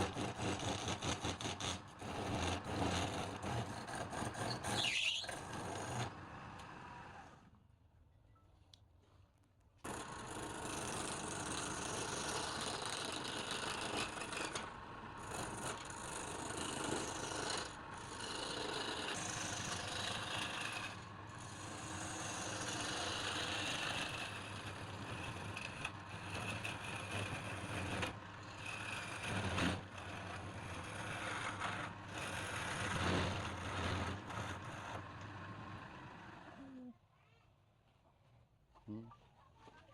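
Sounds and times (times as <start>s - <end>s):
cutting tool scraping spinning wood: 0.0s - 6.9s, 9.8s - 36.6s
low motor hum: 0.0s - 7.6s, 9.9s - 36.9s.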